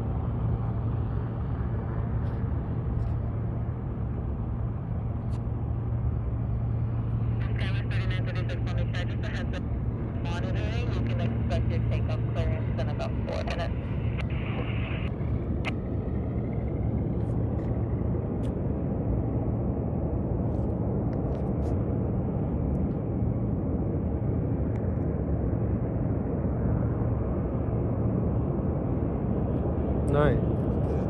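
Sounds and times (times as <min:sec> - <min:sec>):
light aircraft engine droning: 0:00.0 - 0:31.0.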